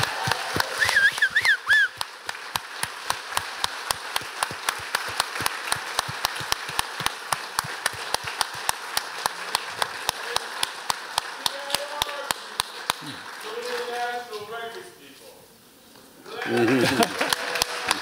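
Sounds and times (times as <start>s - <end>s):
audience applauding: 0.0s - 14.7s, 16.3s - 18.0s
steady even claps: 0.0s - 14.9s.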